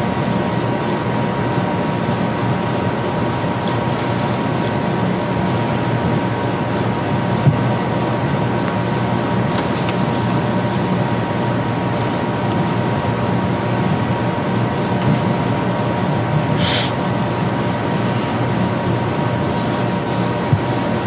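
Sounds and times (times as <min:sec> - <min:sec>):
faint constant hum tones: 0:00.0 - 0:21.0
low room rumble: 0:00.0 - 0:21.0.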